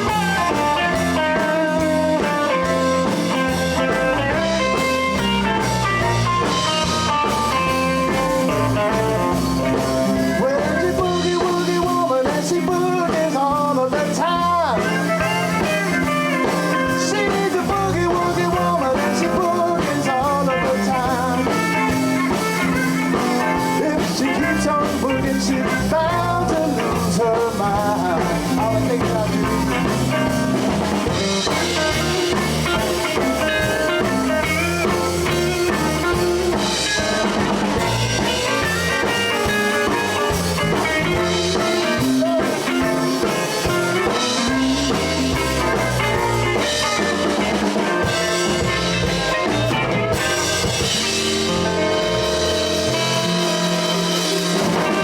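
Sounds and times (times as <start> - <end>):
lead guitar with bent notes: 0.0 - 55.0
live blues band playing: 0.0 - 55.0.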